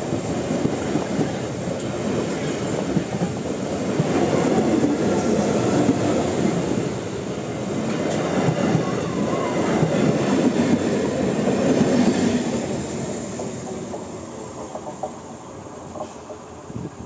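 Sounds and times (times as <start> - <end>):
train wheels clattering over rails: 0.0 - 16.5.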